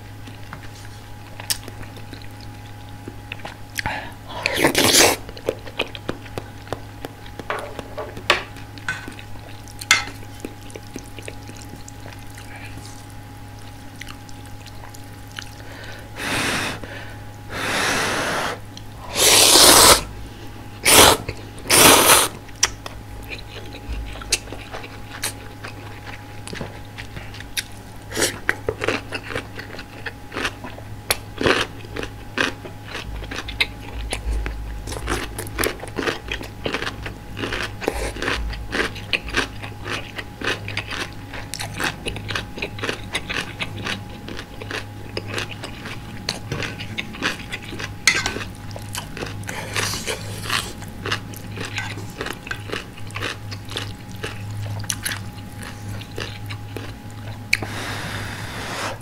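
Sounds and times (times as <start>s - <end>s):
person chewing noodles: 0.0s - 59.0s.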